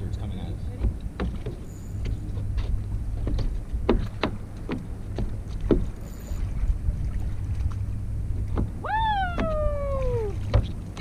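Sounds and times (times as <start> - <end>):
water lapping against hull: 0.0 - 11.0
wind rumble on microphone: 0.0 - 11.0.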